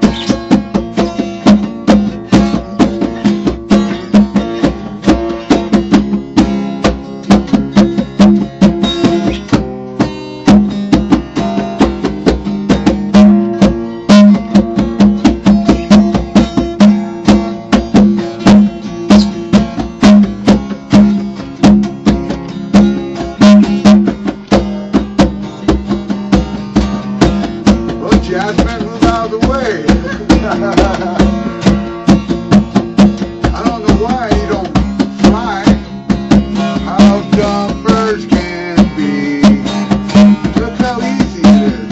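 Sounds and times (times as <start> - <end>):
guitar strummed and plucked: 0.0 - 41.9
percussion strikes: 0.0 - 41.9.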